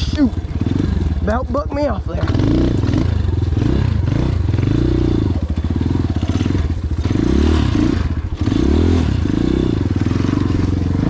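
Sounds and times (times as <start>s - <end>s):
dirt bike engine chugging idle: 0.0s - 11.0s
dirt bike engine revving: 0.0s - 11.0s.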